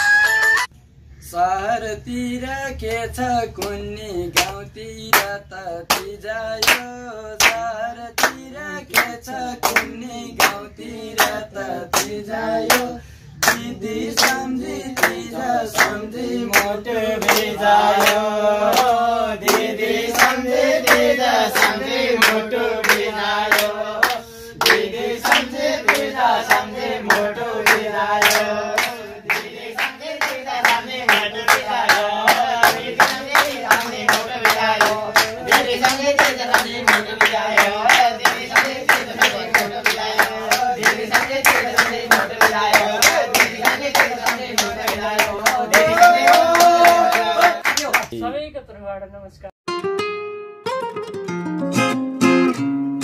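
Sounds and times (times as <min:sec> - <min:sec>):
men singing folk song: 0:01.4 - 0:47.6
hand claps: 0:04.4 - 0:48.2.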